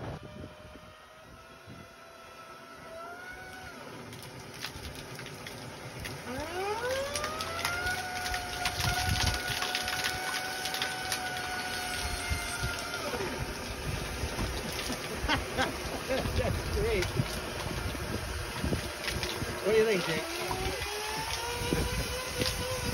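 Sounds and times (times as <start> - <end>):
air blower whine: 0.0 - 4.2, 5.7 - 22.9
water spattering from vent: 3.5 - 22.9.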